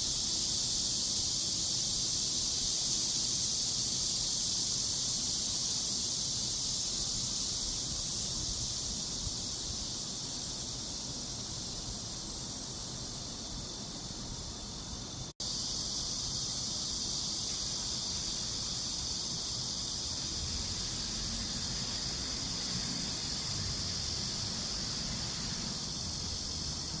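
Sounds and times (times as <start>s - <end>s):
cicadas singing: 0.0s - 27.0s.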